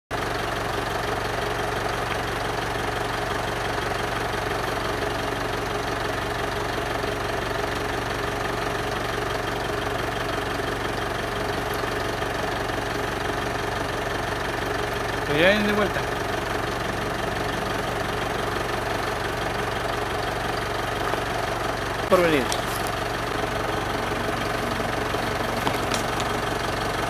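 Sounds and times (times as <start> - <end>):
engine droning: 0.4 - 27.0.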